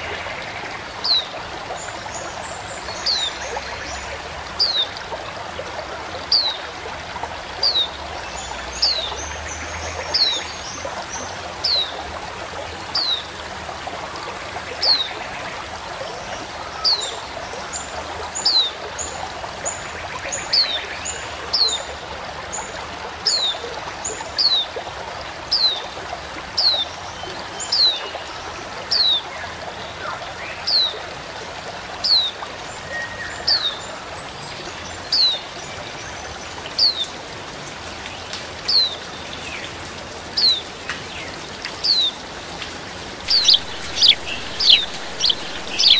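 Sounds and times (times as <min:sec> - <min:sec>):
stream flowing: 0:00.0 - 0:45.9.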